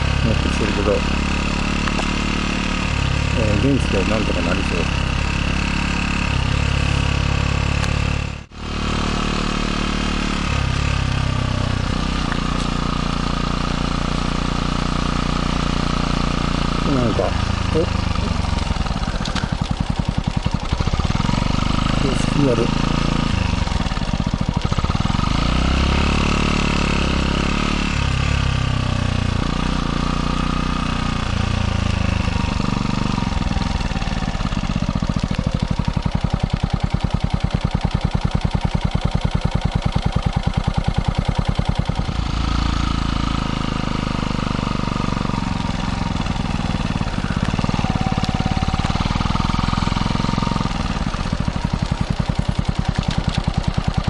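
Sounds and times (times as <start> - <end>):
motorcycle exhaust pulses: 0.0 - 54.0.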